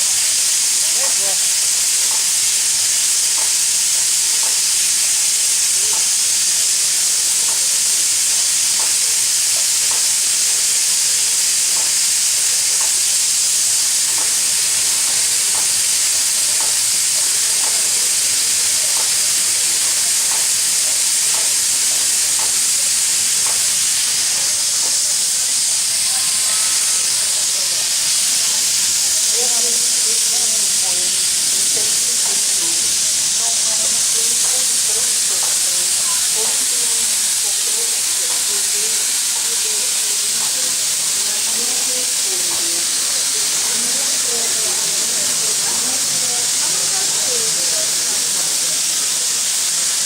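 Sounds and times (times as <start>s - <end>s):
locomotive steam hissing: 0.0s - 50.0s.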